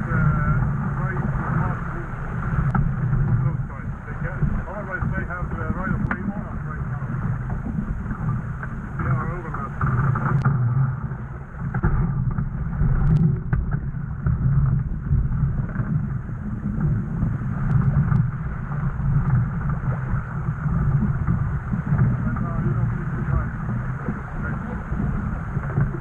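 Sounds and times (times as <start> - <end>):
water rushing along hull: 0.0 - 26.0
wind buffeting microphone: 0.0 - 26.0.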